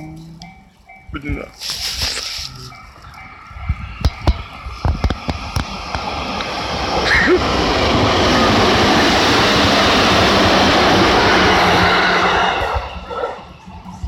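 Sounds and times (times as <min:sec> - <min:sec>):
train passing close by: 0:00.0 - 0:14.0.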